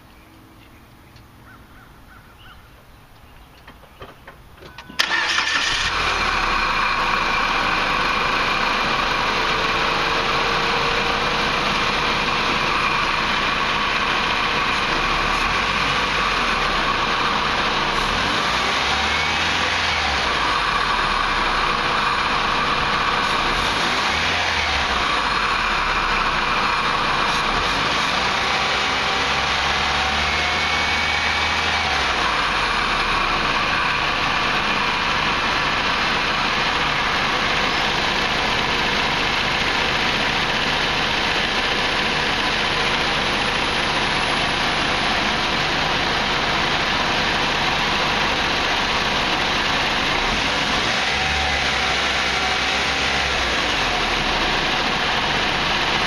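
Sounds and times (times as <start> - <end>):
turbocharged car engine running: 4.1 - 56.0.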